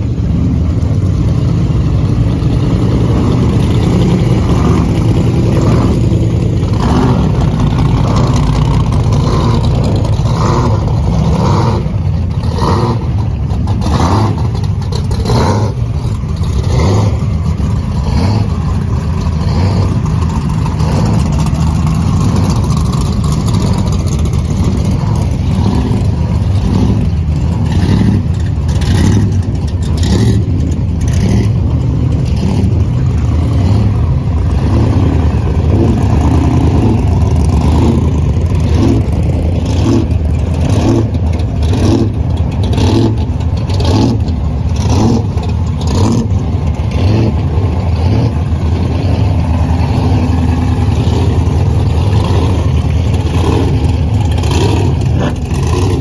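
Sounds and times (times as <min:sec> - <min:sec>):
engine throttle revs: 0:00.0 - 0:56.0
muscle car engines rumbling: 0:00.0 - 0:56.0.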